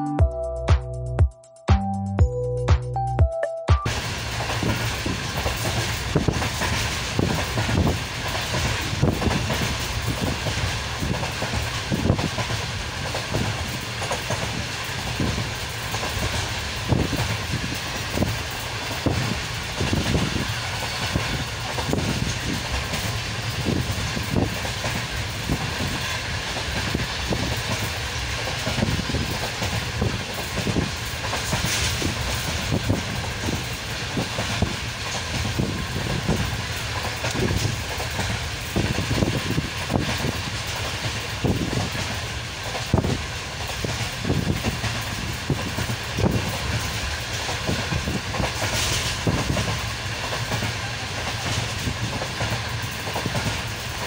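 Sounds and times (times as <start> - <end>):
train rumbling: 3.9 - 54.0
wheels clacking over rail joints: 3.9 - 54.0.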